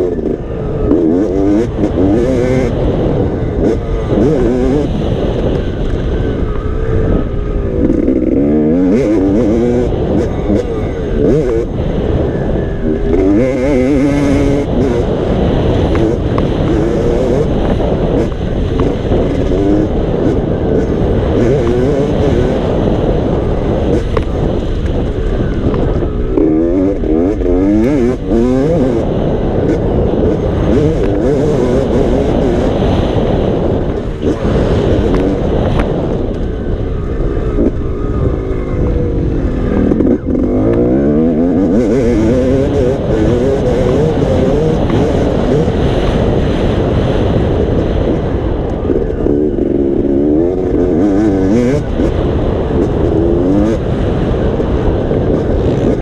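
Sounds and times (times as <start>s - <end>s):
constant rushing noise: 0.0s - 56.0s
dirt bike engine revving: 0.0s - 56.0s.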